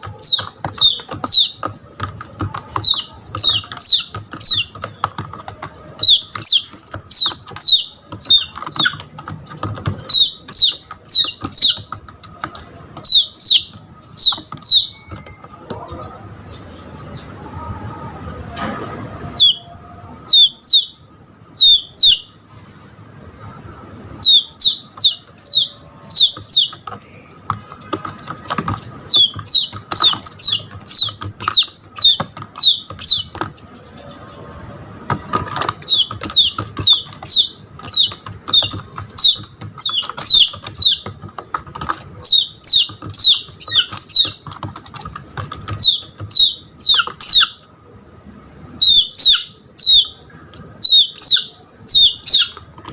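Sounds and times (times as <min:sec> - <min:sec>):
chick peeping: 0:00.0 - 0:22.4, 0:23.4 - 0:47.7, 0:48.7 - 0:52.9.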